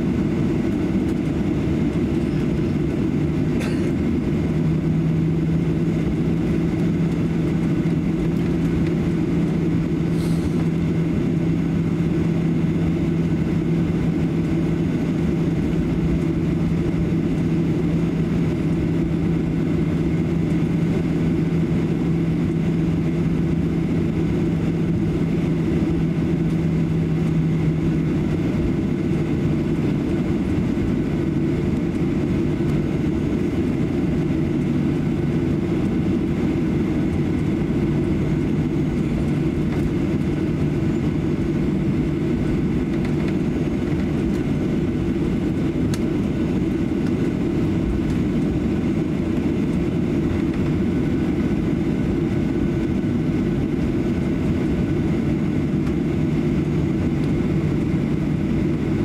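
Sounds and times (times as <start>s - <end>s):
jet engines idling drone: 0.0s - 59.0s
steady hum: 0.0s - 59.0s.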